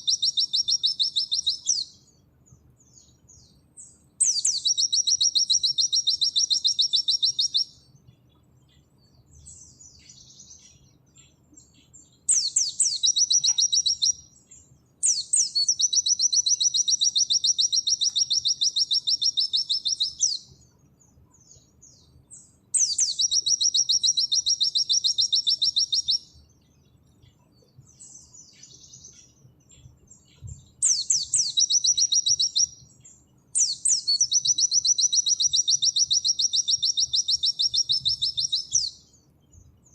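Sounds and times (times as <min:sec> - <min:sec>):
bird singing rapid high notes: 0:00.0 - 0:02.0, 0:02.9 - 0:07.9, 0:09.4 - 0:20.7, 0:21.4 - 0:26.4, 0:27.9 - 0:39.2
soft bird twittering: 0:00.0 - 0:39.9.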